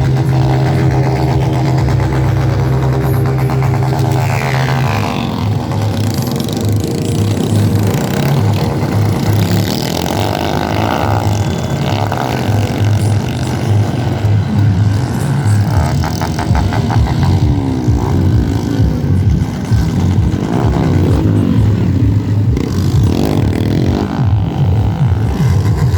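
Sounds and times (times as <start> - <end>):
car stereo playing loud music: 0.0 - 25.9
pounding bass beat: 0.0 - 25.9.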